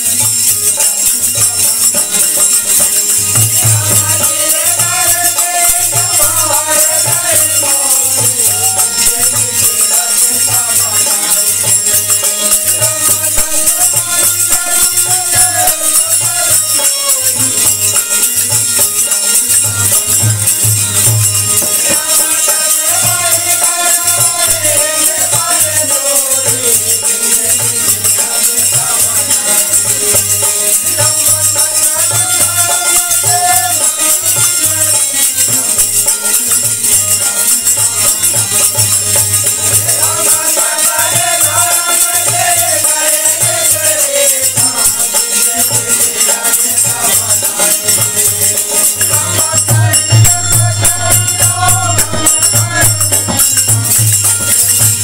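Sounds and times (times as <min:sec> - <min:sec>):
group devotional singing: 0:00.0 - 0:55.0
hand cymbals jingling: 0:00.0 - 0:55.0
harmonium: 0:00.0 - 0:55.0.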